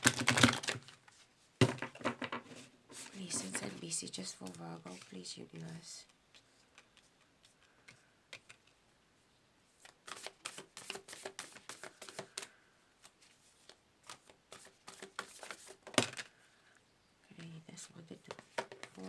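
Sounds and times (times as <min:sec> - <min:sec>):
cards being shuffled: 0:00.0 - 0:08.8, 0:09.8 - 0:16.3, 0:18.3 - 0:19.0.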